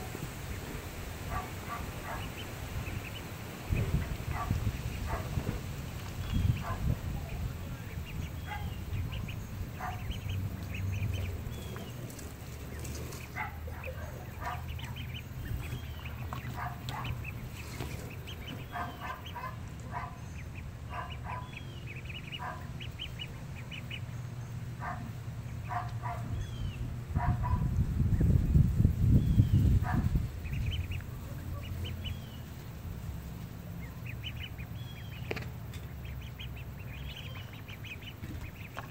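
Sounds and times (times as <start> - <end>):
ducks quacking: 0.0 - 28.2, 29.3 - 38.9
low steady rumble: 0.0 - 38.9.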